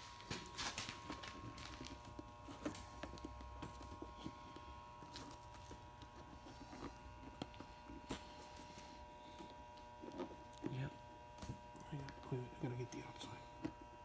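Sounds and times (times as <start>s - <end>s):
faint steady tone and hum: 0.0s - 14.0s.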